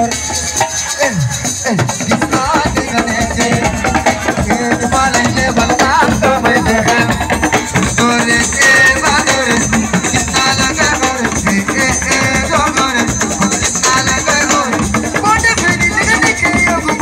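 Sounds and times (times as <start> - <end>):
band with fast dense percussion: 0.0 - 17.0.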